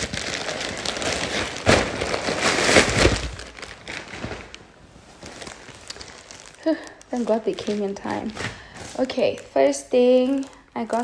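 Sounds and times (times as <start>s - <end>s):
plastic packet crinkling: 0.0s - 11.0s.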